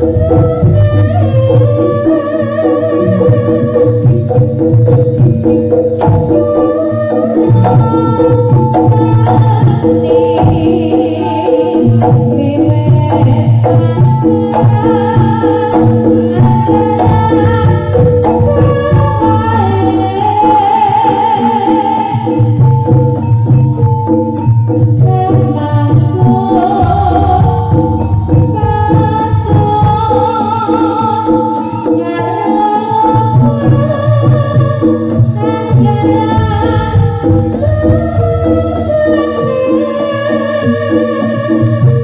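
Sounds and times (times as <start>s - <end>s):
gamelan music: 0.0s - 42.0s
hand drum beating low strokes: 0.0s - 42.0s.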